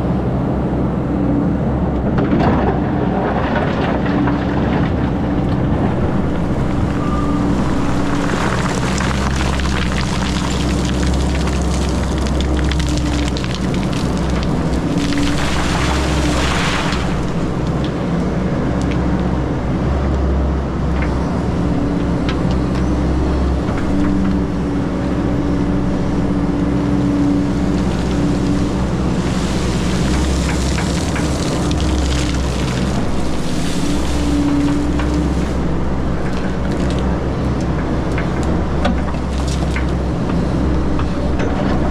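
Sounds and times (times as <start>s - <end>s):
excavator diesel engine working: 0.0s - 41.9s.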